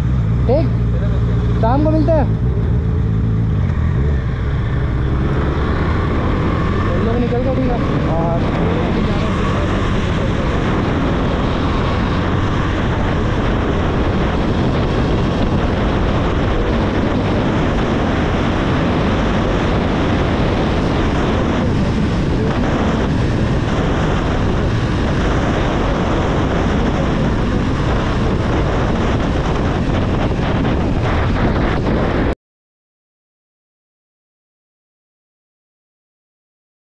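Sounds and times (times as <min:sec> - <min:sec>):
motorcycle engine running: 0:00.0 - 0:32.3
wind rushing over microphone: 0:00.0 - 0:32.4.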